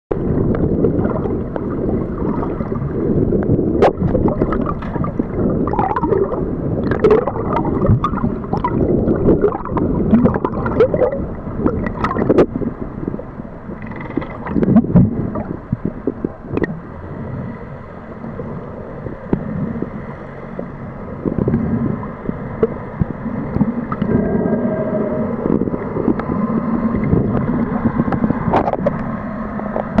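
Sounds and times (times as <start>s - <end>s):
water sloshing and gurgling underwater: 0.1s - 30.0s.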